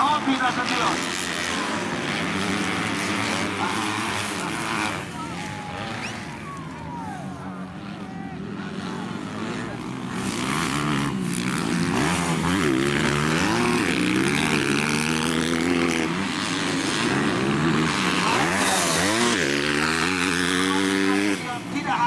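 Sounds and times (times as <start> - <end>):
racing motorcycles engines revving: 0.0 - 22.0.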